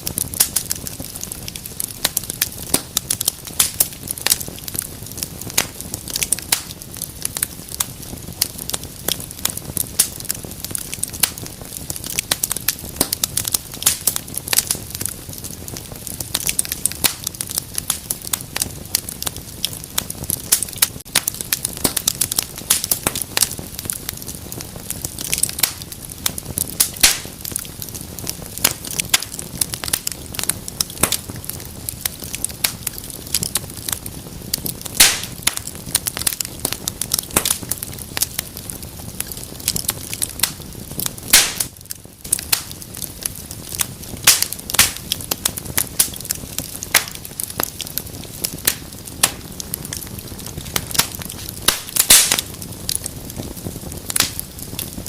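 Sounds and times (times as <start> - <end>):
loud fire snaps: 0.0 - 55.0
low rumble of flame: 0.0 - 55.0
wood fire crackling and popping: 0.0 - 55.0.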